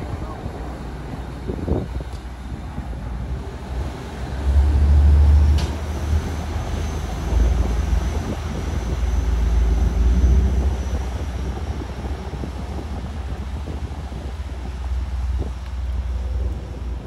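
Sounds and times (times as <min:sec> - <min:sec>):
ferry engines deep drone: 0:00.0 - 0:17.0
propellers churning water: 0:00.0 - 0:17.0.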